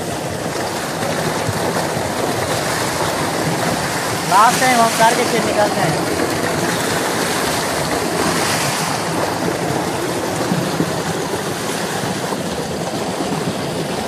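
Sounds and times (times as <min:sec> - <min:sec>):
water gushing into tank: 0:00.0 - 0:14.0.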